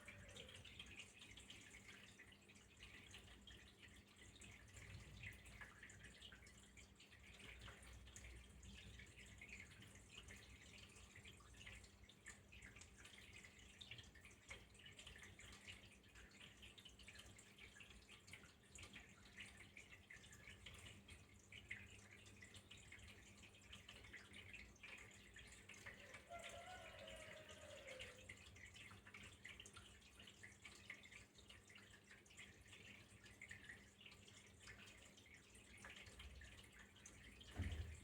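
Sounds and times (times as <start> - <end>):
water trickling and dripping: 0.0 - 38.0.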